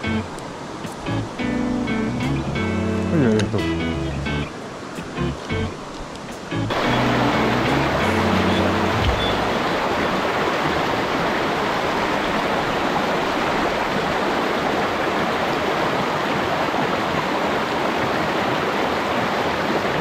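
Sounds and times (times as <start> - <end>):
stream rushing over rocks: 0.0 - 1.9, 2.7 - 20.0.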